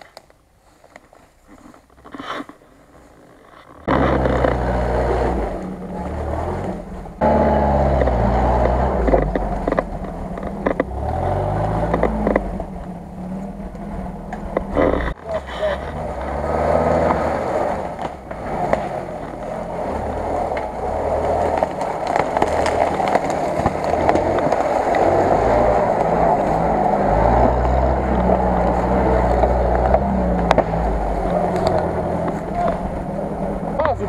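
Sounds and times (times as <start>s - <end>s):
off-road vehicle engine low revs: 3.8s - 34.0s.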